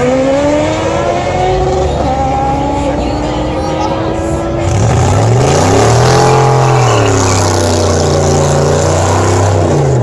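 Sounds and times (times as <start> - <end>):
car engine revving hard: 0.0 - 10.0.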